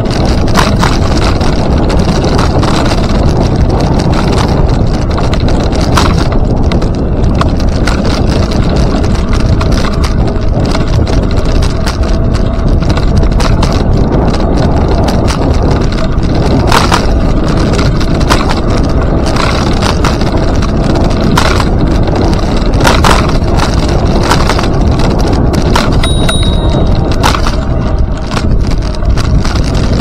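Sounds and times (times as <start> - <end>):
knocks and rattles: 0.0 - 30.0
rolling rumble on pavement: 0.0 - 30.0
wind noise: 0.0 - 30.0.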